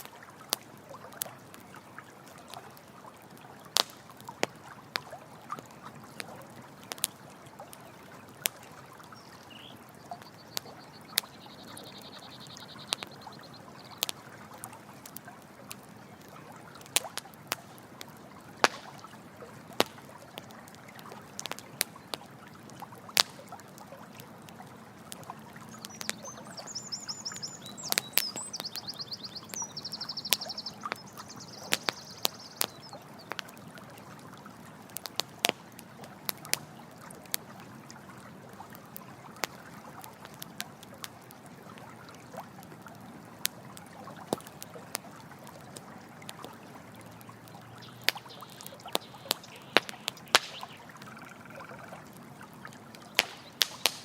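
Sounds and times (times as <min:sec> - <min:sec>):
campfire crackling and popping: 0:00.0 - 0:54.0
running water: 0:00.0 - 0:54.0.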